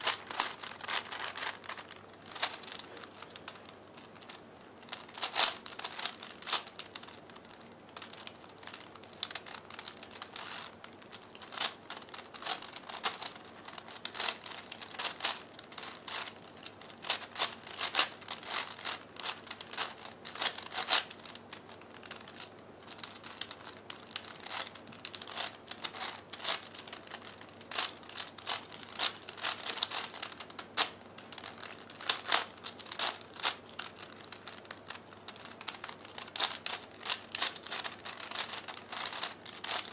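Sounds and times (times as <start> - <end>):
plastic puzzle cube clicking: 0.0 - 39.9.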